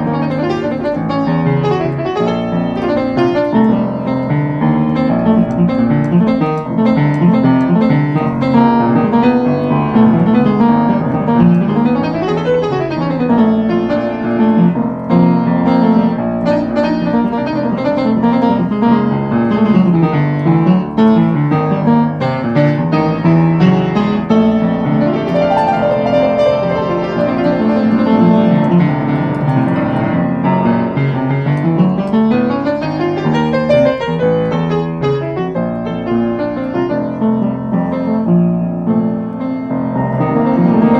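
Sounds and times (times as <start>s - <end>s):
piano music with fast runs: 0.0s - 40.9s.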